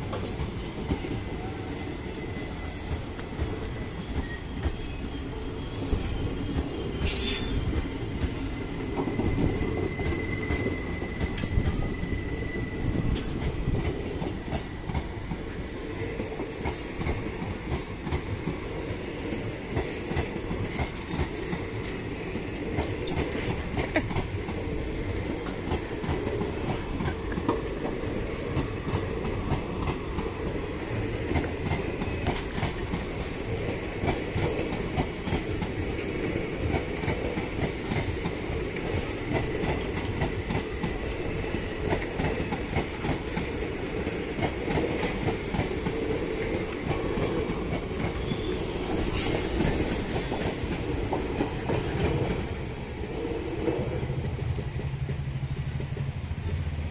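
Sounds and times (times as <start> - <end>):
train rumbling on rails: 0.0 - 56.9.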